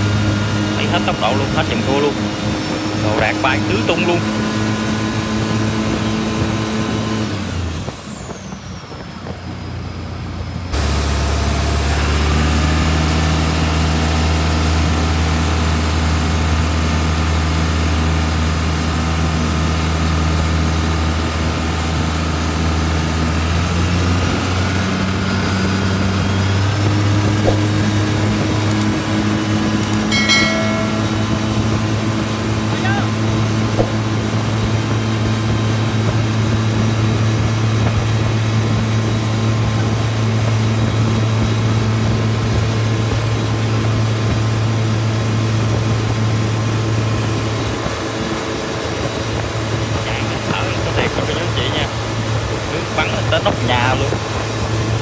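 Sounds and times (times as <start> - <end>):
boat engine roaring: 0.0 - 55.0
high turbo whine: 0.0 - 55.0.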